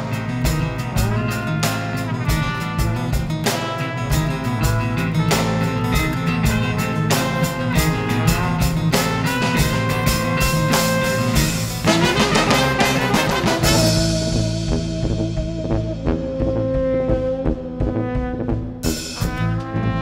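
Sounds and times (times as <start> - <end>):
brass band playing: 0.0 - 20.0
drums striking: 0.0 - 20.0.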